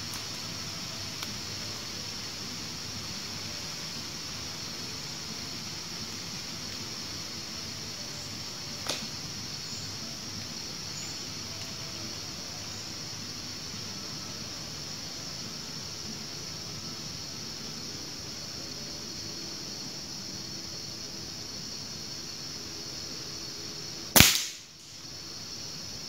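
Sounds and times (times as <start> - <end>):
high outdoor hiss: 0.0 - 26.0.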